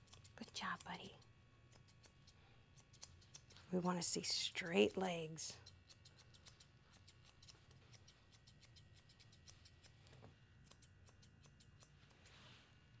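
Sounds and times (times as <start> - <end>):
scissors snipping: 0.0 - 4.0, 4.8 - 10.0, 10.6 - 12.3.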